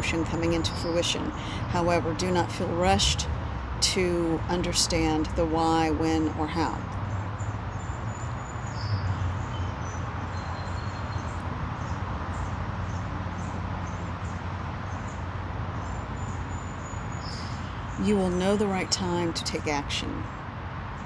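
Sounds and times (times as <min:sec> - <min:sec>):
low hum and wash of noise: 0:00.0 - 0:21.0.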